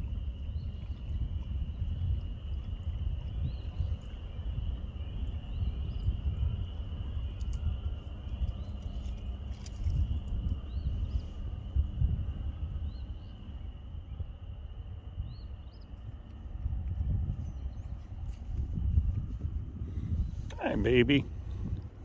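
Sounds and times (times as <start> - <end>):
constant thin high tone: 0.0 - 19.4
wind rumble on microphone: 0.0 - 22.0.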